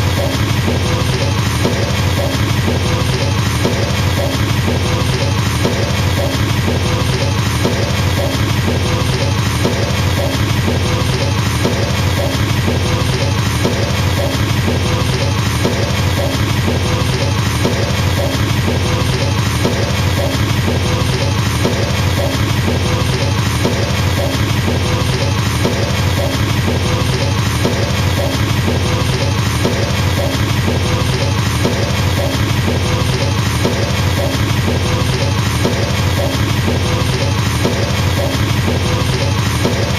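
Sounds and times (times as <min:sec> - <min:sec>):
fast double bass drum kicks: 0:00.0 - 0:39.9.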